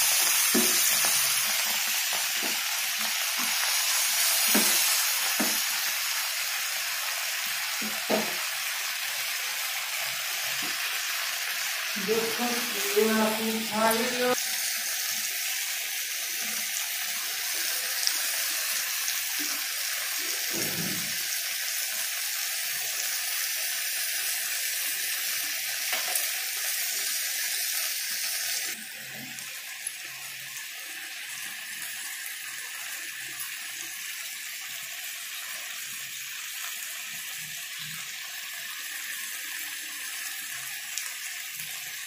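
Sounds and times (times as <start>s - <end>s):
tomatoes and spices sizzling in oil: 0.0s - 42.0s.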